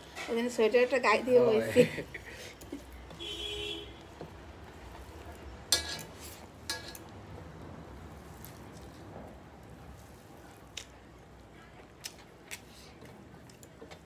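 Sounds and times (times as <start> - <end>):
hands mixing food on plates: 0.0 - 14.0.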